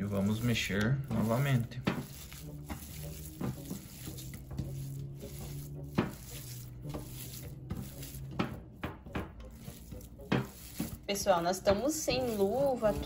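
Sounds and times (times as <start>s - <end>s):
hands squishing raw meat: 0.0s - 11.2s.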